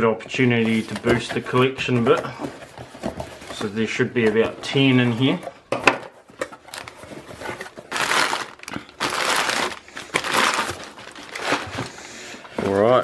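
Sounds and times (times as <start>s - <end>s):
newspaper crinkling and rustling: 0.4s - 5.5s, 6.3s - 13.0s.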